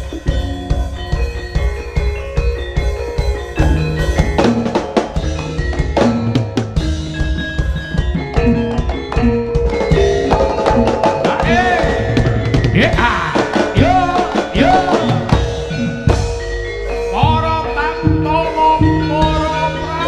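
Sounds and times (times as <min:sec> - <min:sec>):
drum strokes: 0:00.0 - 0:19.6
struck metal keyed instruments: 0:00.0 - 0:20.0
wavering pitch-bending melody: 0:00.0 - 0:20.0.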